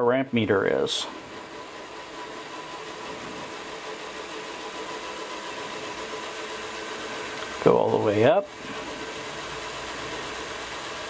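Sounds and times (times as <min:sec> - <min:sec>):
model locomotive motor humming: 0:00.0 - 0:11.0.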